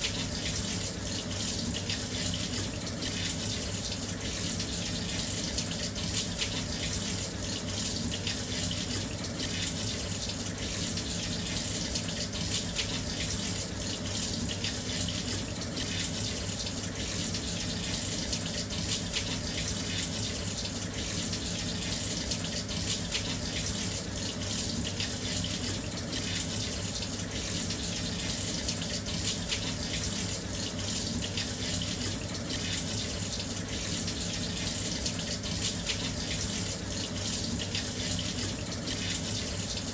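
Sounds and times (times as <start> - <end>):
water pouring into washing machine: 0.0 - 39.9.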